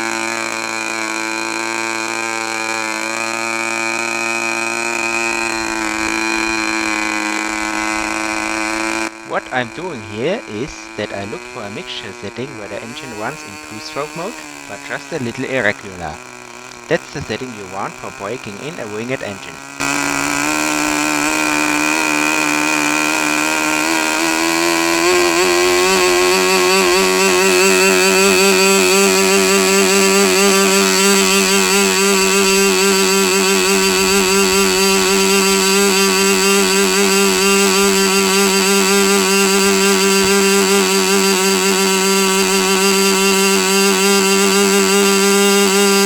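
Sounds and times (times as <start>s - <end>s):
model aircraft engine running: 0.0s - 46.0s.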